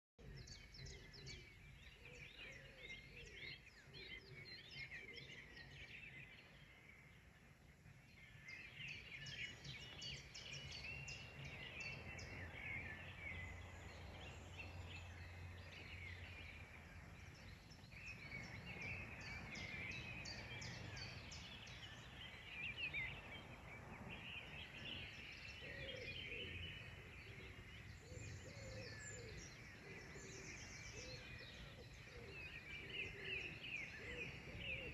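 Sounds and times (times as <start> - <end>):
birds singing: 0.2 - 34.9.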